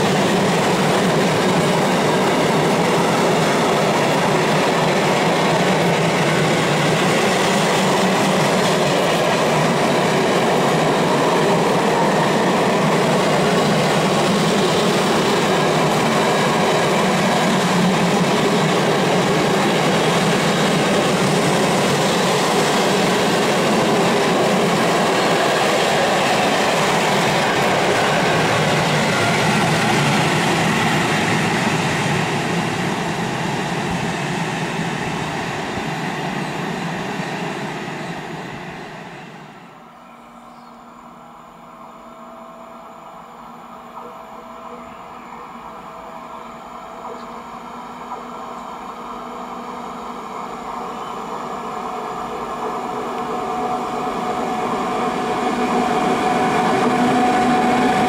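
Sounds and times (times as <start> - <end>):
train wheels rumbling on rails: 0.0 - 41.0, 42.9 - 58.0.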